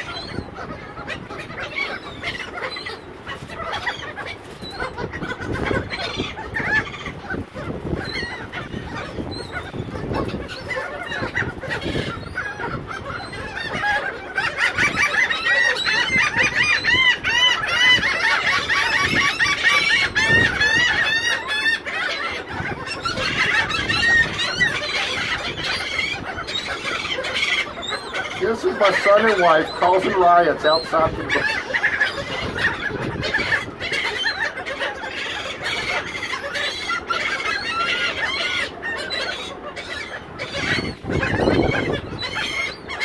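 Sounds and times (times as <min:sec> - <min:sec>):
gulls calling: 0:00.0 - 0:43.0.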